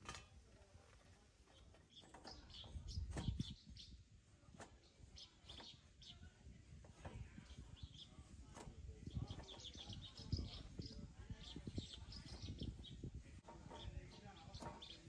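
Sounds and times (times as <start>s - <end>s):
small birds chirping: 0.7s - 15.0s.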